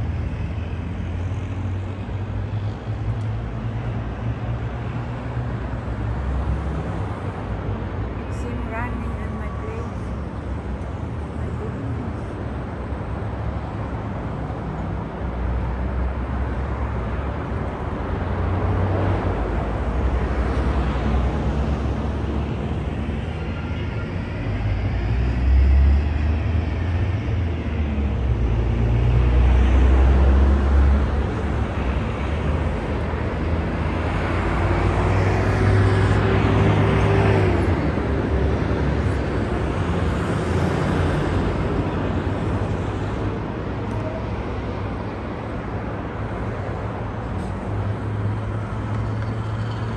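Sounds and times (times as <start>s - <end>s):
cars passing: 0.0s - 49.9s.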